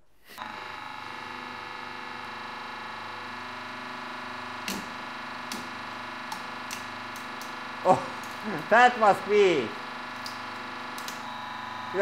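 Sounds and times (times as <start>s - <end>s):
hydraulic press motor humming: 0.4s - 12.0s.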